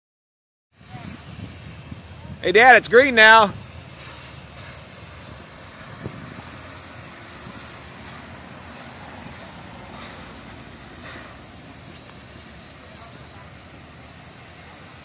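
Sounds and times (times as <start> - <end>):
distant steam locomotive rumble: 0.8 - 15.0
thin steady high tone: 0.8 - 15.0.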